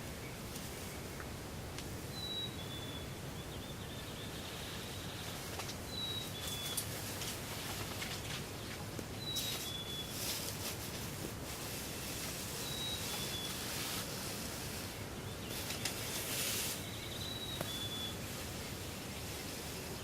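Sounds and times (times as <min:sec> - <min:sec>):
outdoor hiss: 0:00.0 - 0:20.0.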